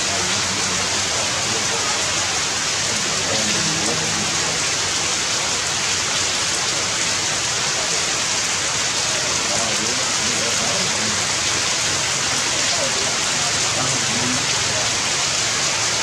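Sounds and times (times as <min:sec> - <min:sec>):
heavy rain on trees and leaves: 0:00.0 - 0:16.0.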